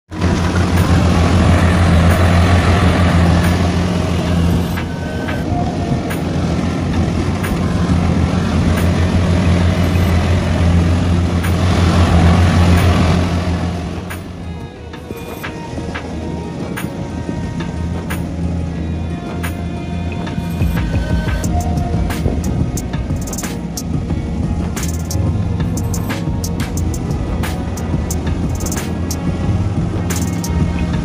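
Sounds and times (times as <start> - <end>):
diesel engine hum: 0.0 - 31.0
working machinery noise: 0.1 - 31.0.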